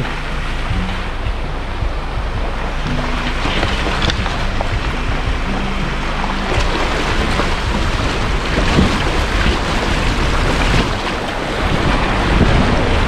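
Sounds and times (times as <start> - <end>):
vehicle engine running low: 0.0 - 13.0
water splashing and rushing: 0.0 - 13.0.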